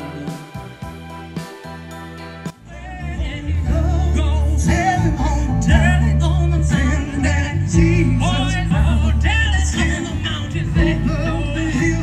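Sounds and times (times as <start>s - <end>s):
instrumental accompaniment: 0.0s - 12.0s
person singing: 0.0s - 12.0s.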